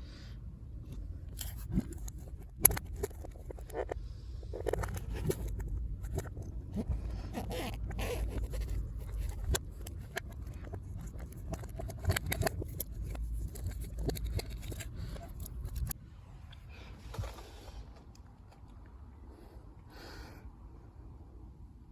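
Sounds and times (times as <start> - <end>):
low steady rumble: 0.0 - 21.9.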